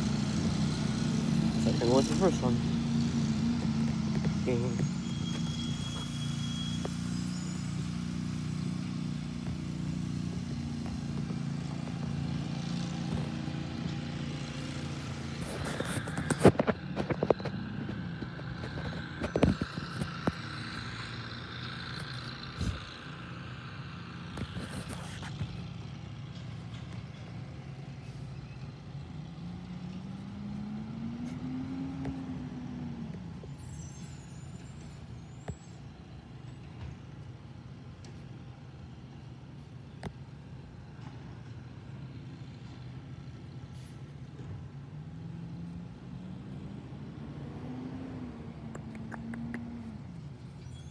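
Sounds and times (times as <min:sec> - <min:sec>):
truck engine running: 0:00.0 - 0:47.2.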